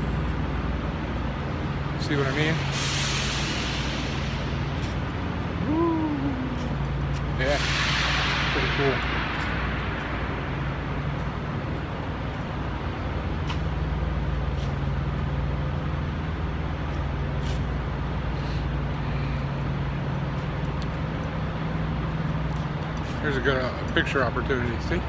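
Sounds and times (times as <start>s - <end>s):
diesel truck engines idling: 0.0s - 25.0s.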